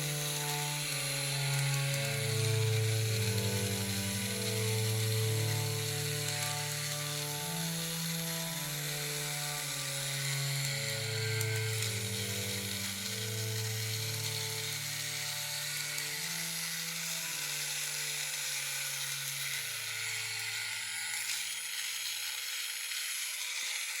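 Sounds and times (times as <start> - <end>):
soft music of held low notes: 0.0 - 24.0.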